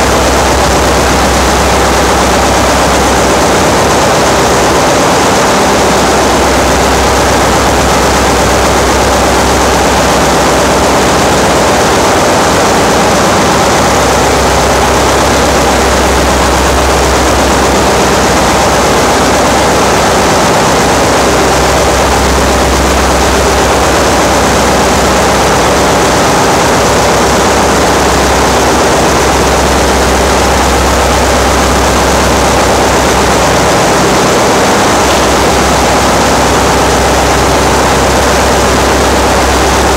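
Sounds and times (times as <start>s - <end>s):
engine room machinery din: 0.0s - 39.9s.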